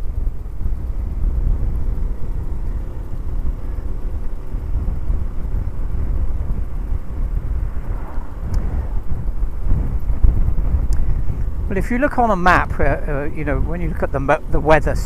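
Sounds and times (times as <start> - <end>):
motorcycle engine cruising: 0.0 - 15.0
wind buffeting microphone: 0.0 - 15.0.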